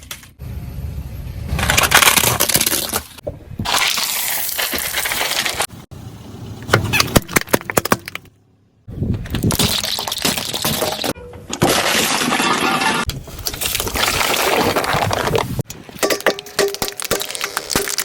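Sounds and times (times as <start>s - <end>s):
objects crushed under car tyre: 1.5s - 5.7s, 6.7s - 8.4s, 9.2s - 18.0s.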